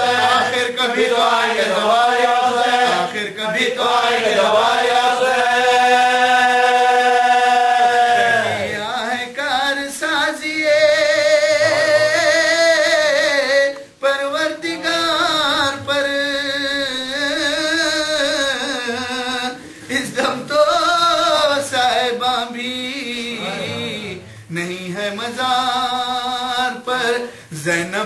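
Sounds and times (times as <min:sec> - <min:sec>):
man chanting unaccompanied: 0:00.0 - 0:28.0.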